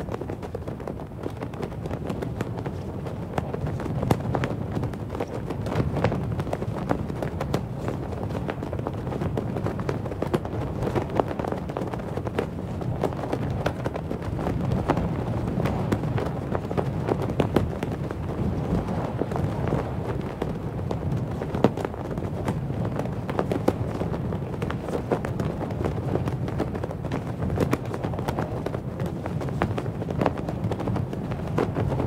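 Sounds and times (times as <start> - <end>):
cloth flag flapping: 0.0 - 32.0
low wind rumble: 0.0 - 32.0.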